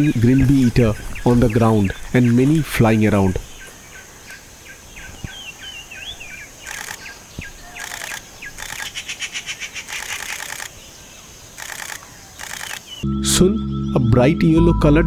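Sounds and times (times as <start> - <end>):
fast buzzy bird trills: 0.0 - 13.0.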